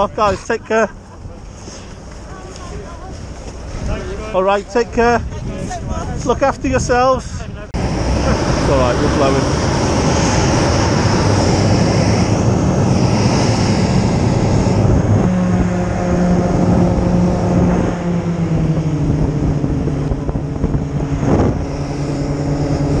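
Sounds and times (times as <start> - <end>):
hovercraft engines running: 0.0 - 23.0.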